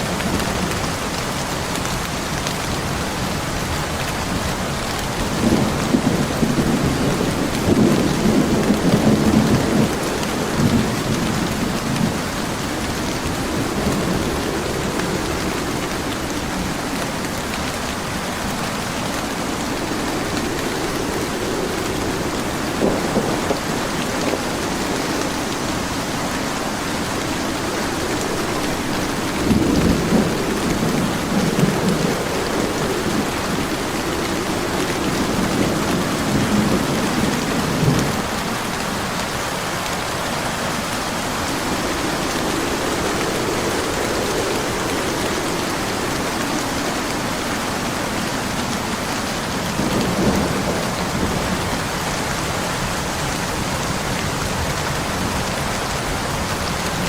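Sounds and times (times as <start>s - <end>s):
heavy rain: 0.0s - 57.0s
thunder rumbling: 0.0s - 57.0s.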